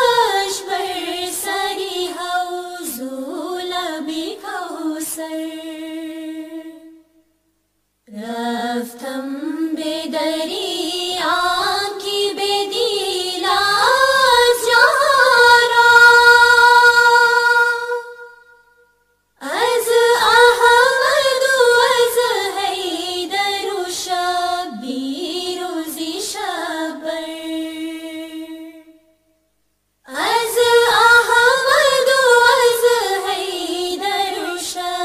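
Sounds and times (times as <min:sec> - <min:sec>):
person singing unaccompanied: 0:00.0 - 0:07.0, 0:08.1 - 0:18.6, 0:19.4 - 0:29.0, 0:30.1 - 0:35.0.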